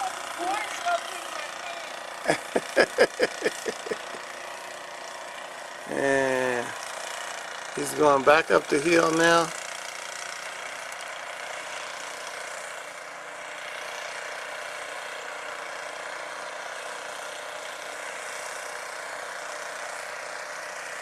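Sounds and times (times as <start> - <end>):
distant snow blower engine: 0.0 - 21.0.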